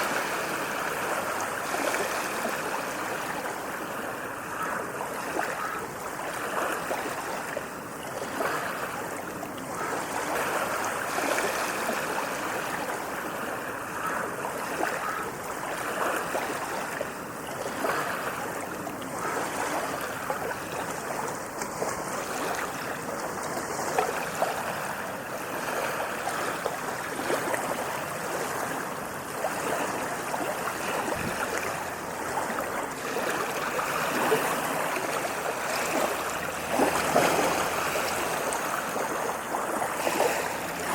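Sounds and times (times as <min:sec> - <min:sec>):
sea waves on sandy beach: 0:00.0 - 0:40.9.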